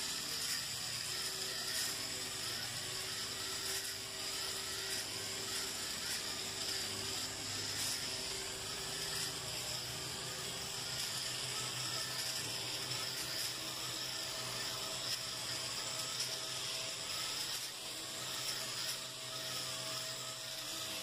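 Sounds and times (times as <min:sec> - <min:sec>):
toy robot motor whining: 0:00.0 - 0:21.0.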